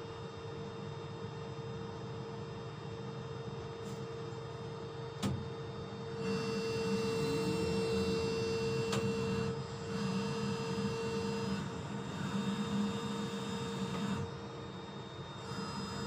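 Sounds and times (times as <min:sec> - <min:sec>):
crane machine hum with whine: 0:00.0 - 0:16.0.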